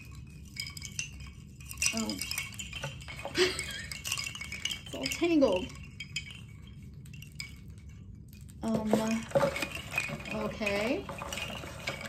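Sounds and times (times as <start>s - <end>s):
bamboo wind chime clacking: 0.0s - 12.0s.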